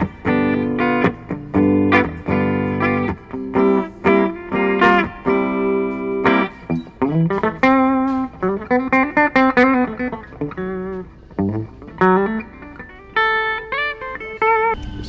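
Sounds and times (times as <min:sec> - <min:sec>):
clean electric guitar notes: 0:00.0 - 0:15.0.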